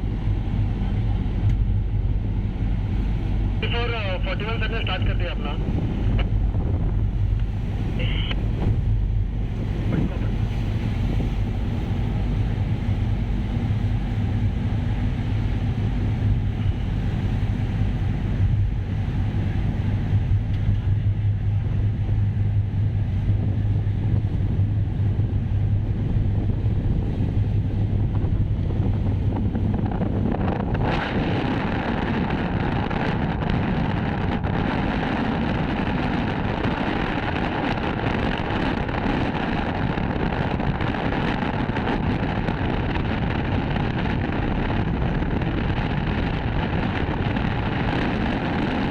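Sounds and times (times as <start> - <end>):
ship engine humming: 0.0 - 48.9
wind buffeting microphone: 0.0 - 48.9.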